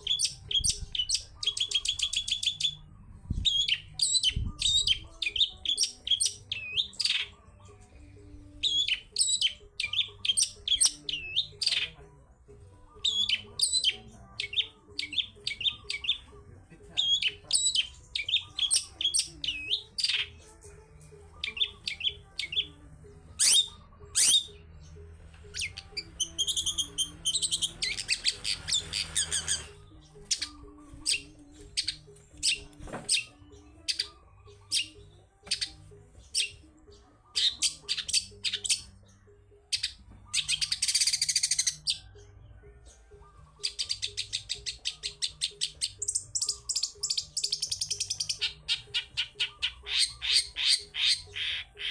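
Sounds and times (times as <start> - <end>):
bird singing chirps and trills: 0.0 - 51.9.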